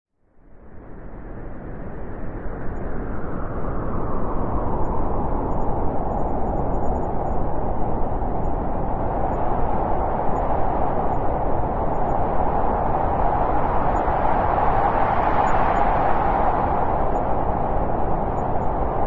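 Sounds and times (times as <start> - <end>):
wind blowing: 0.6 - 19.0.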